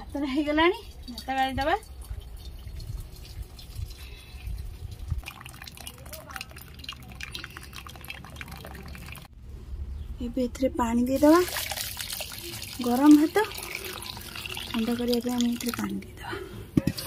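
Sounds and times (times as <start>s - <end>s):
water dripping and trickling: 0.0s - 9.4s, 11.2s - 16.2s.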